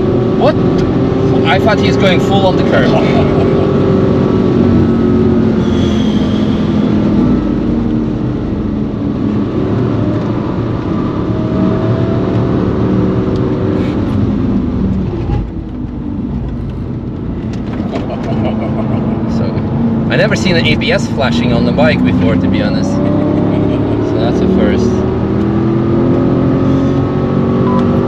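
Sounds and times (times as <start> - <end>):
car engine running hard: 0.0 - 28.0.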